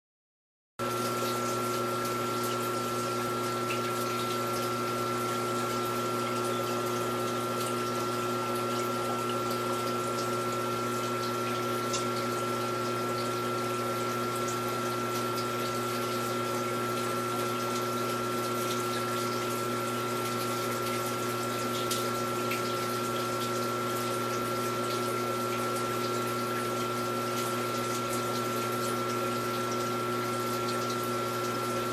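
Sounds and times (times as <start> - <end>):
aquarium water pump humming: 0.8 - 31.9.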